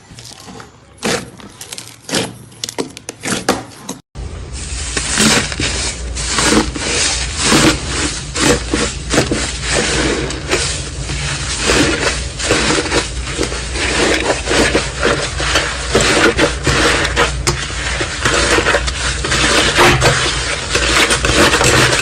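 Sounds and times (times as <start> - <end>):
slime crackling and squishing: 0.0 - 3.5, 4.6 - 22.0.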